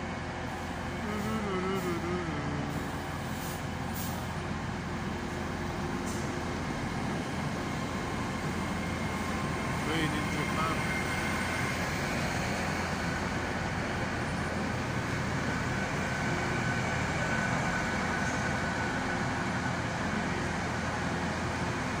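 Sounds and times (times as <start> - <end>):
train passing with low rumble: 0.0 - 22.0.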